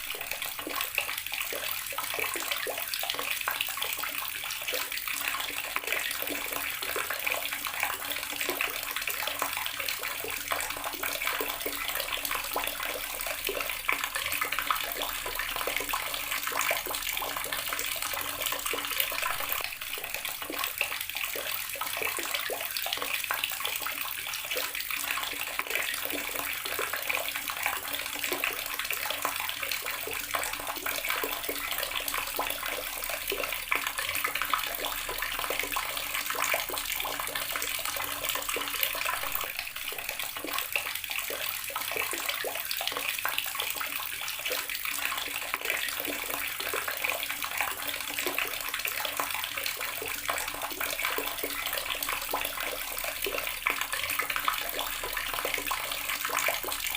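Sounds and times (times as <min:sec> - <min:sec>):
water running from a tap: 0:00.0 - 0:56.9.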